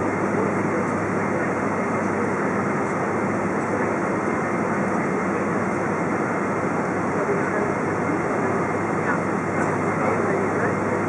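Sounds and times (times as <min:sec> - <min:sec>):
aircraft cabin engine noise: 0:00.0 - 0:11.0.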